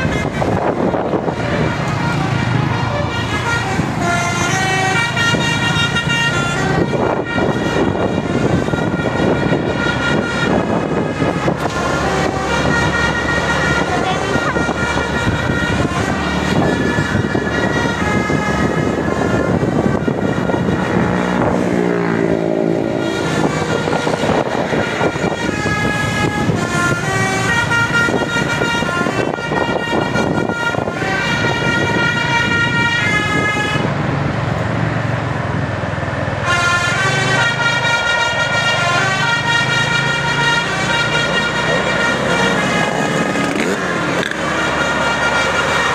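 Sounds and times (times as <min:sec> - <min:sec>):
multi-tone bus horn tune: 0:00.0 - 0:34.0, 0:36.3 - 0:45.9
engine and road noise: 0:00.0 - 0:45.9.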